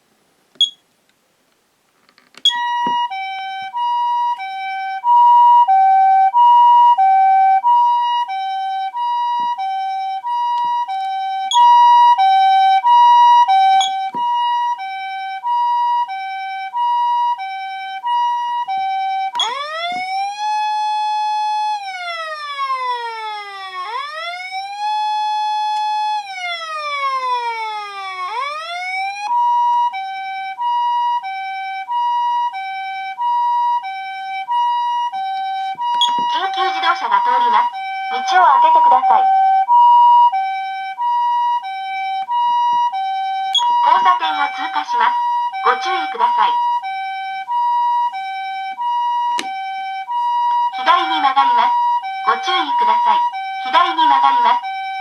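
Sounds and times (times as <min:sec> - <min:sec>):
two-tone ambulance siren: 0:02.4 - 0:55.0
wailing siren: 0:02.5 - 0:55.0.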